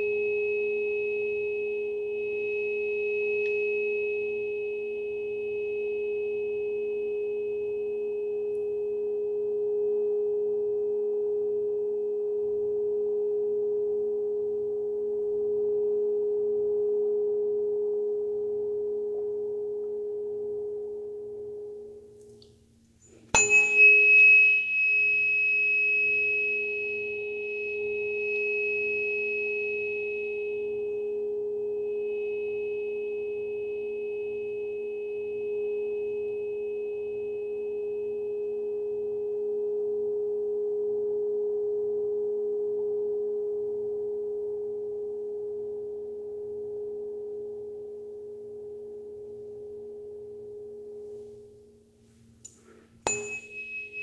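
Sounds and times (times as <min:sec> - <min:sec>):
tuning fork ringing: 0:00.0 - 0:22.3, 0:23.0 - 0:54.0
tuning fork strike: 0:00.0 - 0:43.0, 0:43.6 - 0:54.0.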